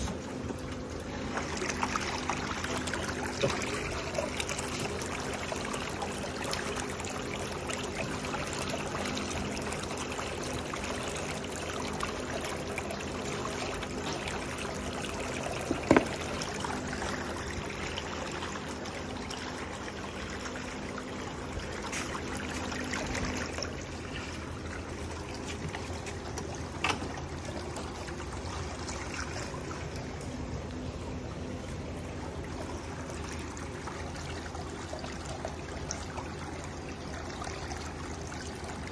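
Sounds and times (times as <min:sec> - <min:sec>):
whirlpool jet churning water: 0:00.0 - 0:38.9.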